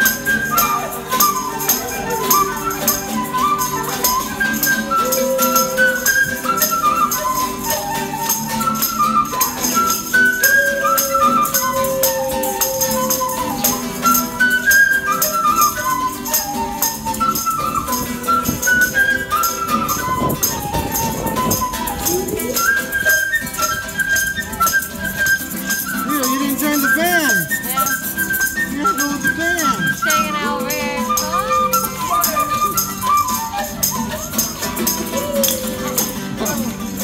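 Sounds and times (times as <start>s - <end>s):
hand shakers rattling: 0.0s - 37.0s
strummed acoustic guitar: 0.0s - 37.0s
wooden flute melody: 0.0s - 37.0s.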